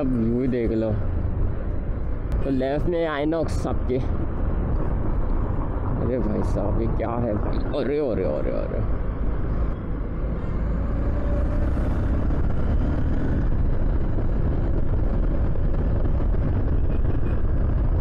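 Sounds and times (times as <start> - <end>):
road noise: 0.0 - 18.0
wind rushing: 3.4 - 18.0.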